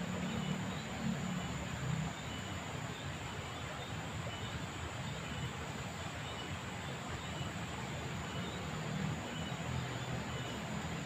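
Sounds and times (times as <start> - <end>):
flowing water: 0.0 - 11.0.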